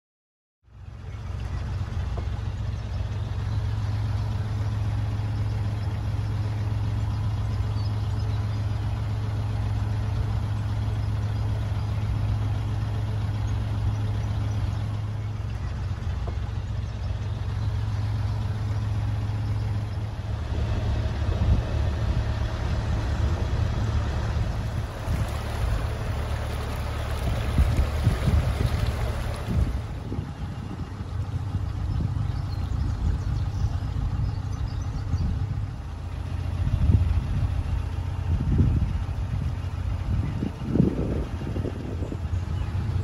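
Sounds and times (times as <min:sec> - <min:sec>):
boat diesel engine drone: 0:00.6 - 0:43.0.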